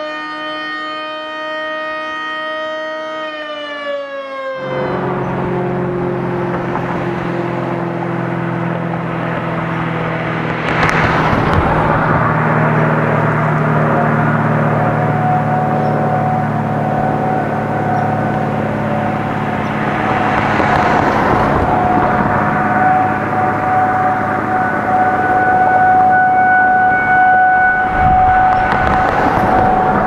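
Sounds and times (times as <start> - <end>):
warning siren chord: 0.0 - 30.0
road noise: 4.0 - 30.0
low engine hum: 4.6 - 30.0.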